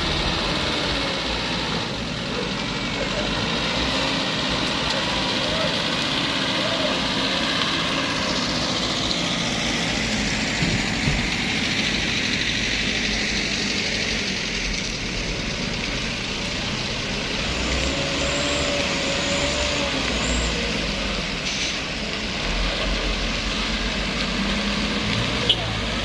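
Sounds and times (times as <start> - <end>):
diesel truck engine rumbling: 0.0 - 26.0.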